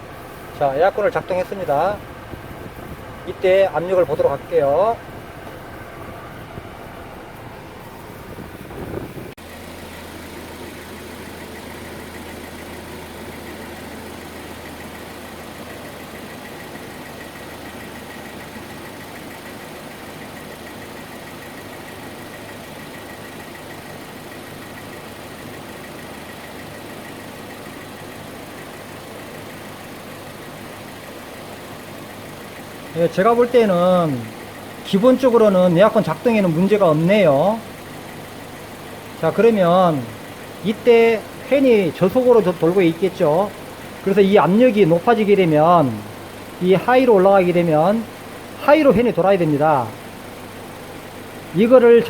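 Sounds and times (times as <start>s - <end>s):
air conditioning blower hum: 0.0s - 52.0s
car engine idling: 0.0s - 52.0s.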